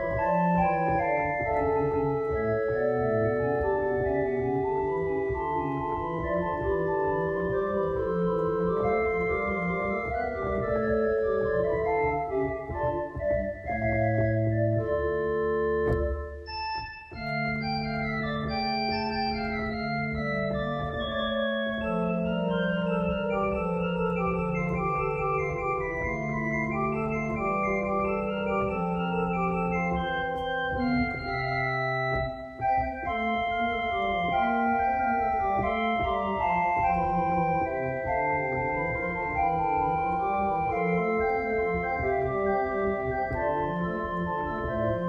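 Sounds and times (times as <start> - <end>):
organ playing sustained chords: 0.0 - 45.0.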